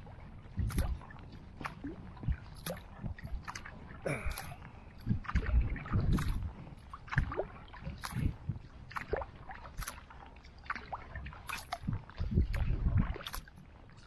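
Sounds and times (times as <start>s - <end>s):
paddle strokes splashing: 0.0s - 14.0s
water gurgling along hull: 0.0s - 14.0s.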